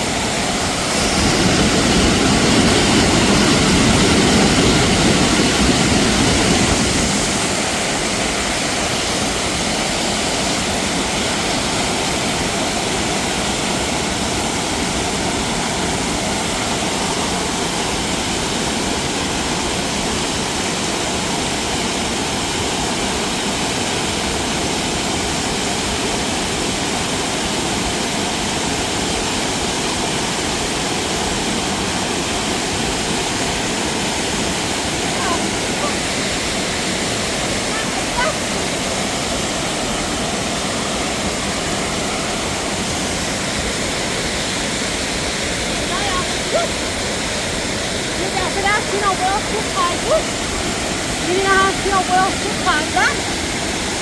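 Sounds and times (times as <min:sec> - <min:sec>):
water rushing in a stream: 0:00.0 - 0:54.0.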